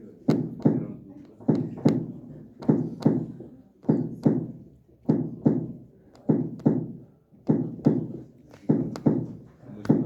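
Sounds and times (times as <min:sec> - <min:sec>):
finger tapping on chest: 0:00.2 - 0:10.0.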